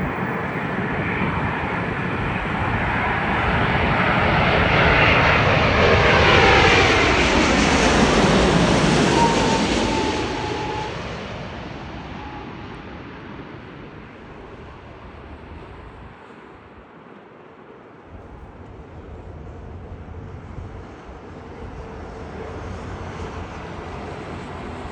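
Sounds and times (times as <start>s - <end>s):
falling jet engine whine: 0.0s - 24.9s
jet airliner passing: 0.0s - 24.9s.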